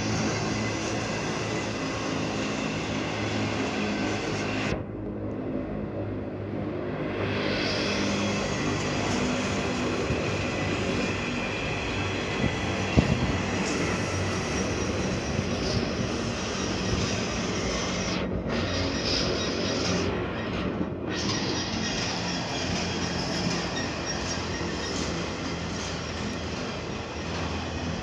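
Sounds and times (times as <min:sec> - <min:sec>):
freight train rumbling: 0:00.0 - 0:04.9, 0:06.9 - 0:28.0.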